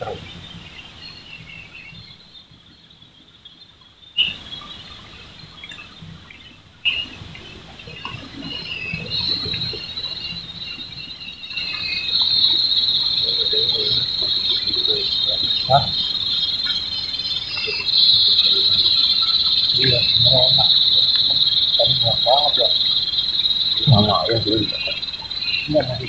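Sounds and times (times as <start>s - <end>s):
insects buzzing trill: 0.0s - 26.0s.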